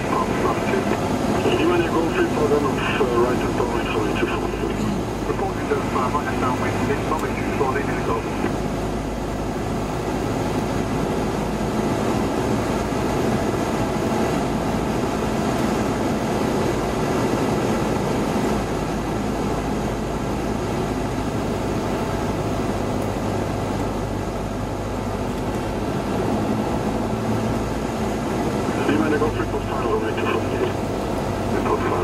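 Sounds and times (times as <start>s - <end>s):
airplane engine droning: 0.0s - 32.0s.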